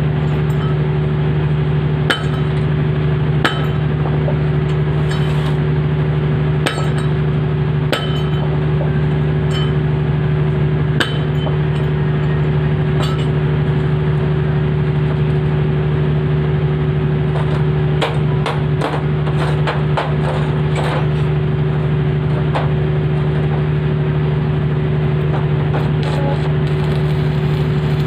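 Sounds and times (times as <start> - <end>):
loud machine hum: 0.0 - 28.0.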